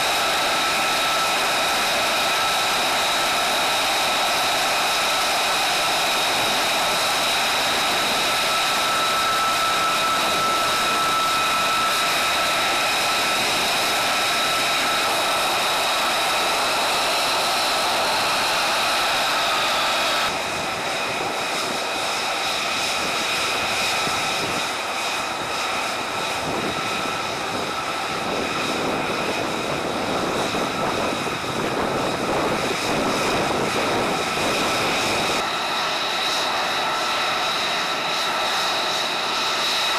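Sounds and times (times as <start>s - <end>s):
jet engine roar with whine: 0.0s - 39.9s.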